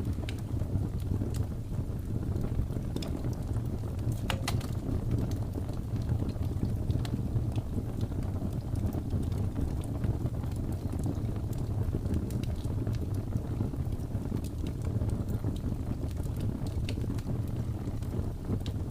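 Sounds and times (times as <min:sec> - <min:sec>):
low rumble of blizzard wind: 0:00.0 - 0:18.9
wood fire crackling and popping: 0:00.0 - 0:18.9.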